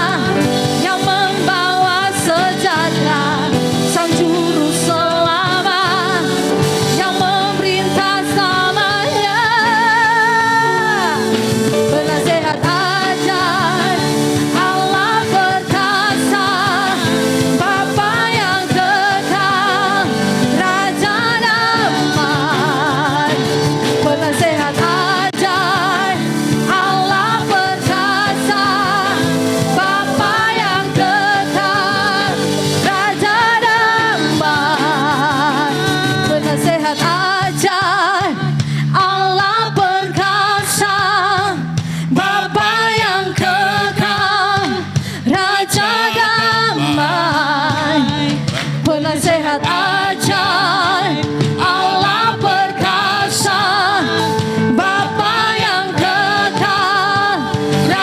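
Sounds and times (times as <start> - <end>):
instrumental accompaniment: 0.0 - 38.6, 41.6 - 58.0
person singing with vibrato: 0.0 - 58.0.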